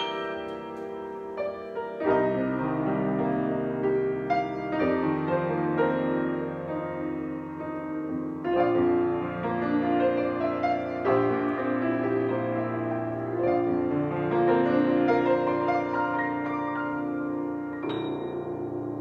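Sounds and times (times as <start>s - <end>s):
grand piano melody and chords: 0.0s - 19.0s.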